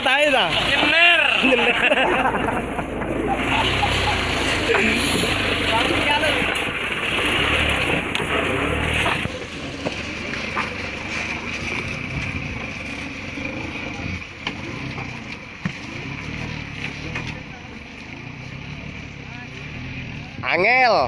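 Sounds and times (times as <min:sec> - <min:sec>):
truck engine at low revs: 0:00.0 - 0:21.0.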